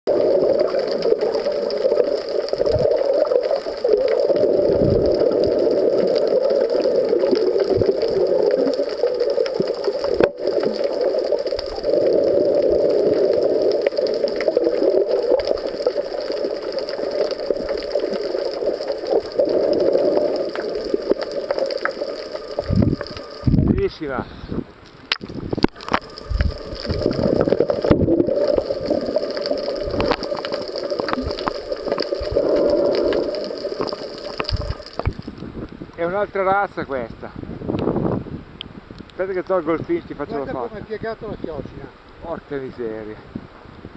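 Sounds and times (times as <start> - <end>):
muffled underwater rushing: 0.1 - 36.0.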